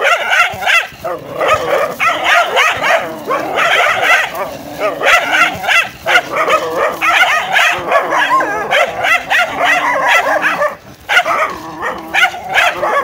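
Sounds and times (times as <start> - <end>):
dogs snarling barking and yelping: 0.0 - 13.0.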